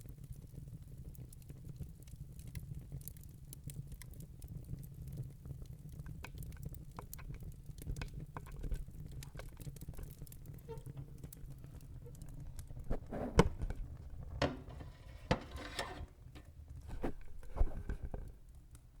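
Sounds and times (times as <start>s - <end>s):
burning wood popping: 0.1s - 19.0s.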